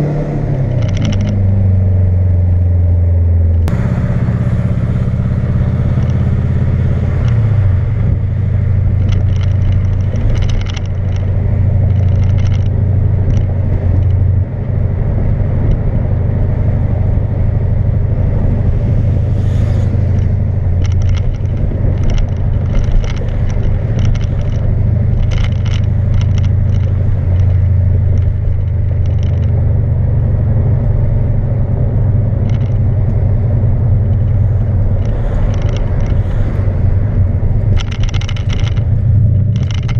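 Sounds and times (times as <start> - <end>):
loud car exhaust drone: 0.0 - 39.9.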